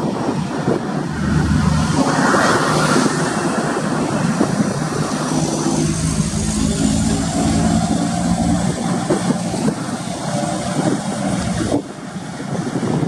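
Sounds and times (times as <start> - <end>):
diesel trucks passing: 0.0 - 13.0
low engine drone: 0.0 - 13.0.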